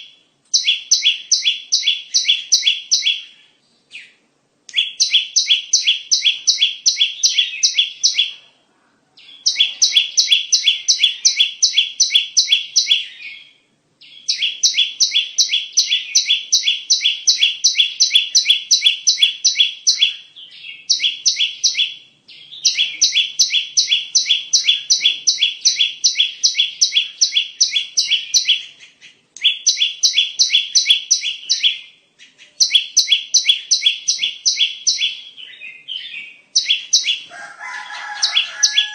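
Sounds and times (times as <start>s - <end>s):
bird sharp repeated chirps: 0.0s - 8.6s, 9.2s - 38.9s.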